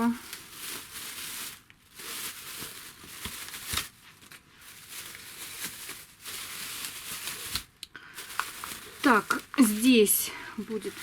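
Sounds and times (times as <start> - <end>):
plastic rustling and crinkling: 0.0 - 11.0.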